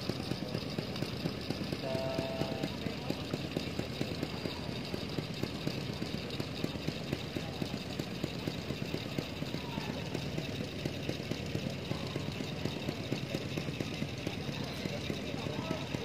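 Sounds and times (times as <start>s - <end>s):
engine idling with knocking: 0.0s - 16.0s.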